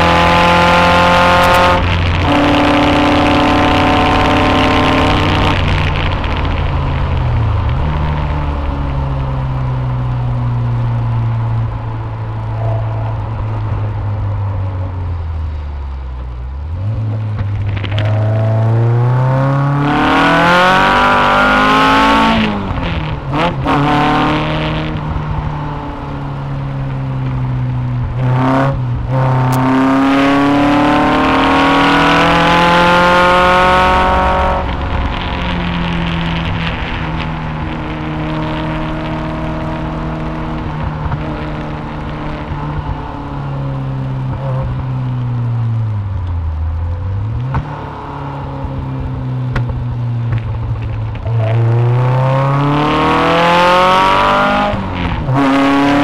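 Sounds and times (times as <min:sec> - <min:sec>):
sports car engine revving: 0:00.0 - 0:09.2, 0:16.6 - 0:26.1, 0:26.8 - 0:56.0.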